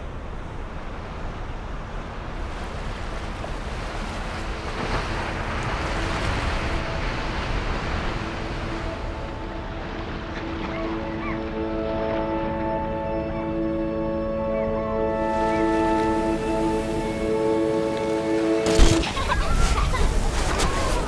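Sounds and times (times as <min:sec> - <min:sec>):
sea waves washing on beach: 0:00.0 - 0:12.3, 0:15.2 - 0:21.0.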